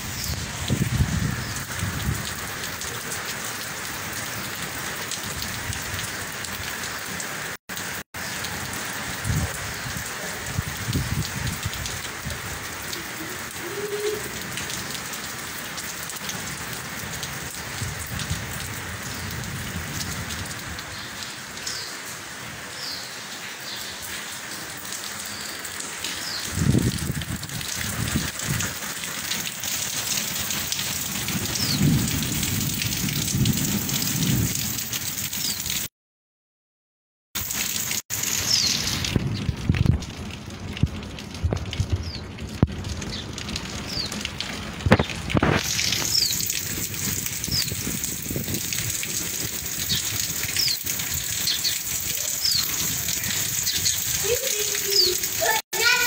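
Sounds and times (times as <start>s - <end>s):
heavy rain pattering: 0.0s - 35.9s, 37.4s - 56.0s.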